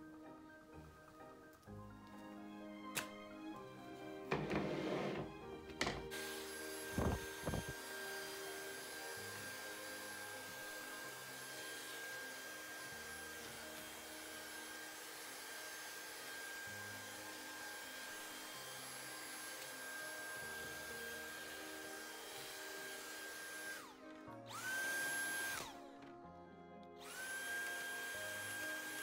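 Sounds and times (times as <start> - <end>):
soft background music: 0.0 - 29.0
electric motor whining: 4.3 - 25.8, 27.0 - 29.0.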